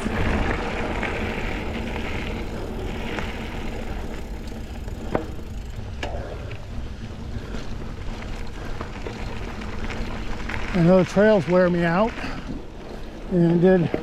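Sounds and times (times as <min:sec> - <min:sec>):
bike tyres rumbling on dirt: 0:00.0 - 0:14.0.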